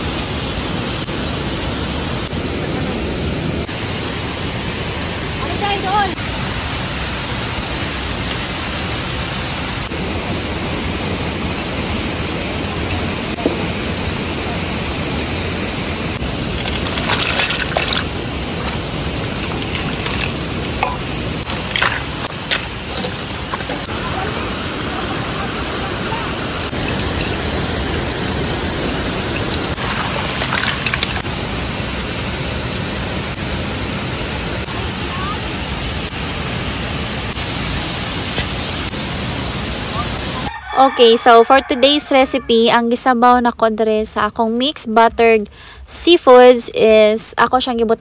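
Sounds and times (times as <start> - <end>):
waterfall rushing: 0.0 - 40.5.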